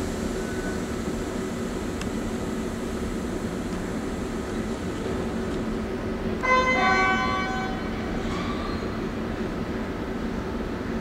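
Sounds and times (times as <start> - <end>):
metro train humming: 0.0 - 11.0.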